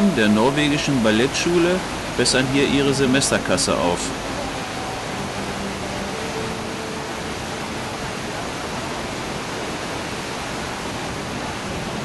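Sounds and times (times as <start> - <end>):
waterfall crashing: 0.0 - 12.0.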